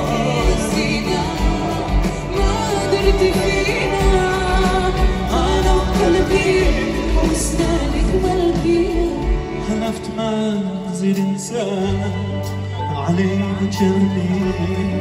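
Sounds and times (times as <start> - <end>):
band and orchestra playing pop music: 0.0 - 15.0.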